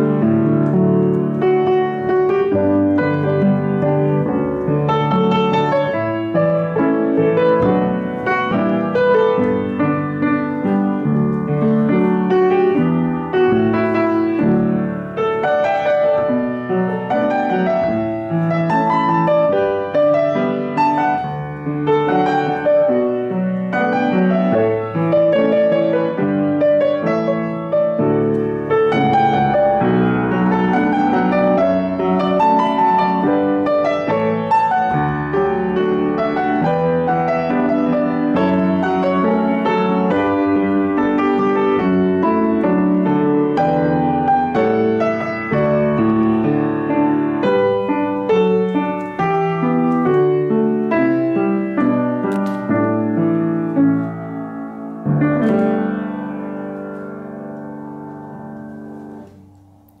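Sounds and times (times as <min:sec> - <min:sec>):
solo piano playing: 0:00.0 - 1:00.0.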